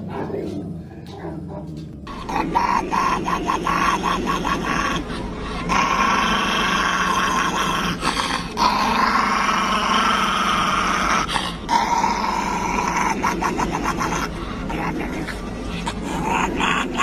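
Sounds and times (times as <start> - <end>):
dog growling: 0.0 - 17.0.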